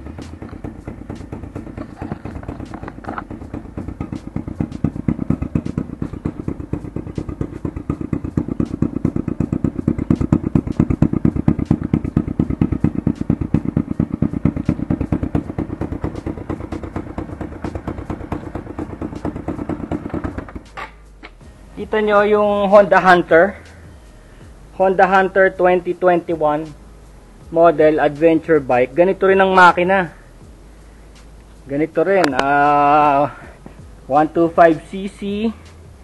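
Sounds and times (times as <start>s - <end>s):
motorcycle engine chugging: 0.0s - 36.0s.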